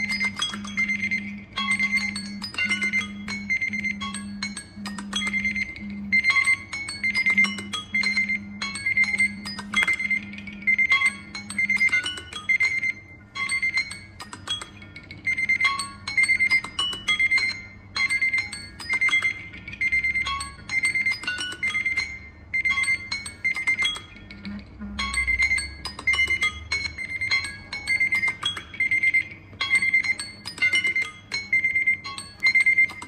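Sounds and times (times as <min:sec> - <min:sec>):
plucked chime-like melody: 0:00.0 - 0:33.0.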